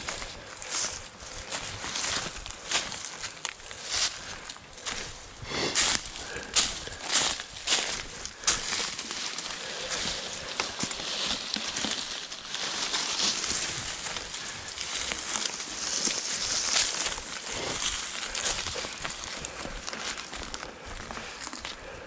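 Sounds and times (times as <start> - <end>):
dry leaves crunching underfoot: 0.0 - 21.9.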